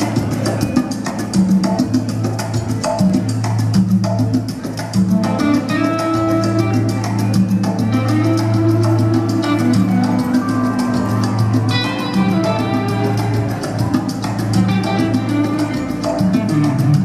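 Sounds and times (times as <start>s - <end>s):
salsa music: 0.0s - 17.0s.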